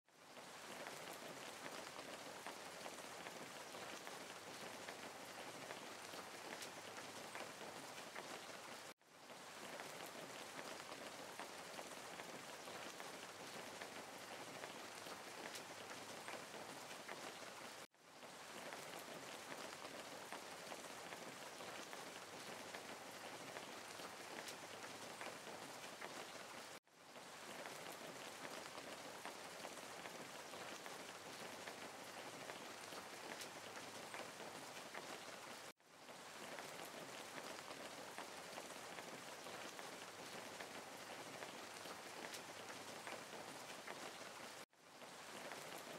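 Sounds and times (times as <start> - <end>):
rain patter: 0.1 - 45.9.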